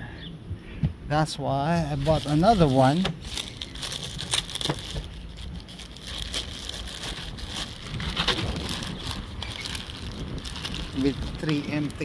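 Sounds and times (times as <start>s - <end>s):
wind rumbling on microphone: 1.7s - 12.0s
handling clicks and rustles: 1.9s - 12.0s.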